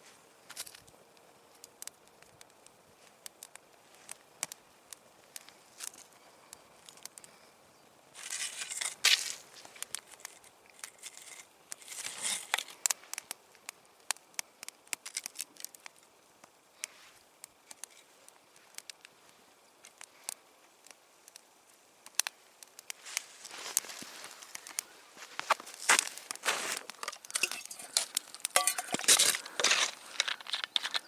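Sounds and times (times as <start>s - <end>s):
campfire crackling: 0.0s - 31.0s
wood snapping and popping: 0.5s - 7.4s, 8.2s - 31.0s.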